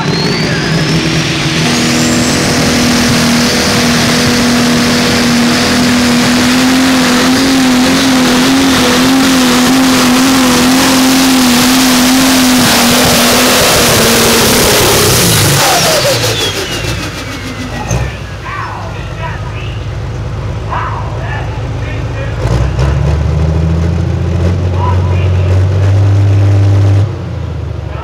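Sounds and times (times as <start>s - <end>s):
diesel engine at full throttle: 0.0s - 28.0s.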